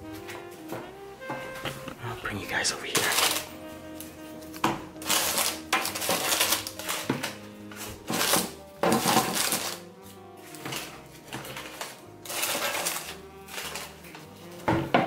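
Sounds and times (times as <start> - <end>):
background music: 0.0 - 15.0
parchment paper rustling: 1.4 - 14.9.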